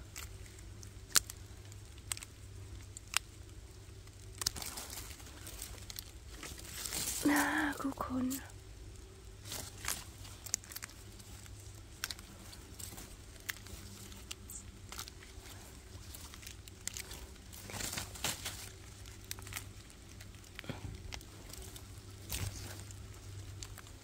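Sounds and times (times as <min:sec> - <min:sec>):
leaves rustling: 0:00.0 - 0:24.0
twigs crackling: 0:00.0 - 0:24.0.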